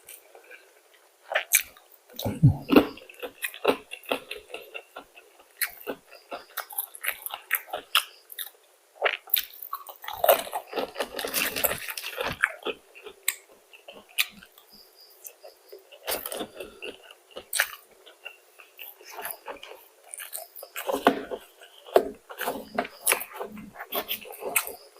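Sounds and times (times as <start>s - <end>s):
person chewing crispy food: 0.0s - 24.9s.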